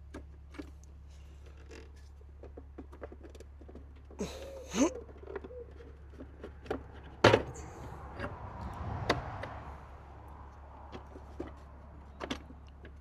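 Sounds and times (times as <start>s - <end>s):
engine parts knocking and clicking: 0.0s - 4.2s, 5.0s - 13.0s.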